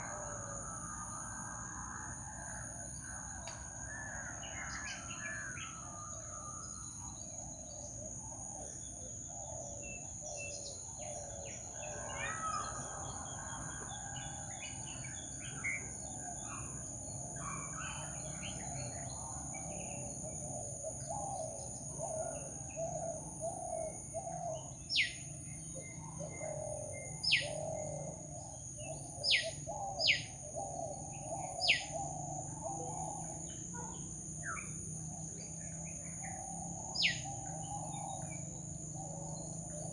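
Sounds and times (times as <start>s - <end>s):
steady high-pitched whine: 0.0s - 39.9s.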